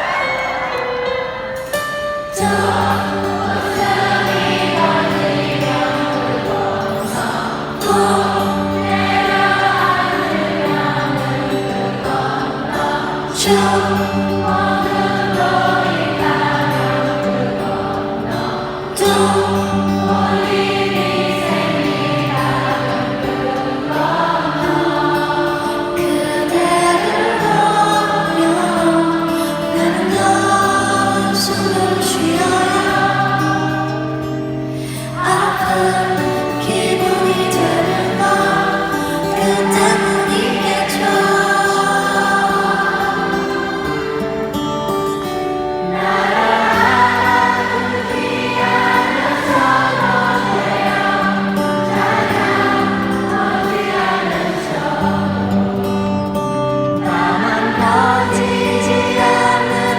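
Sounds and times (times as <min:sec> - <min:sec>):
person singing ballad: 0:00.0 - 0:59.9.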